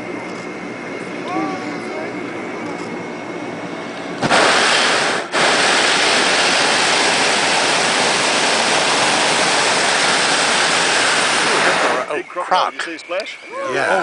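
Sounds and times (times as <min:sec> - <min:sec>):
propane burner blast: 0:00.0 - 0:13.4.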